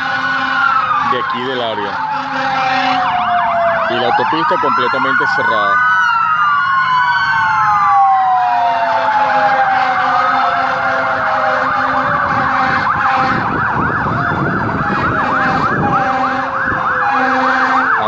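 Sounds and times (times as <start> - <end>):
siren fast yelp: 0.0 - 18.0
siren slow wail: 0.0 - 18.0.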